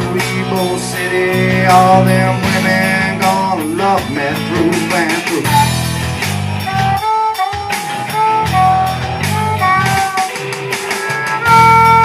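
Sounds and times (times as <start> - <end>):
drum hits: 0.0 - 12.0
guitar holding melodic notes: 0.0 - 12.0
low bass notes: 0.0 - 12.0.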